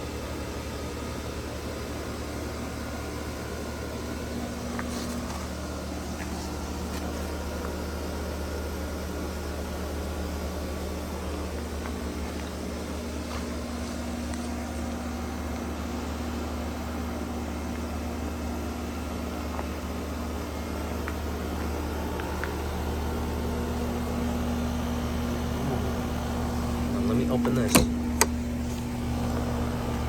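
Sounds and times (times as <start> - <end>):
air conditioner humming: 0.0 - 30.0.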